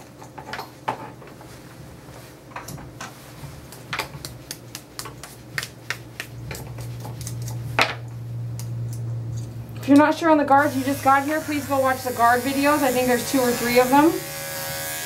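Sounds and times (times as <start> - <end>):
low steady hum: 0.0 - 13.5.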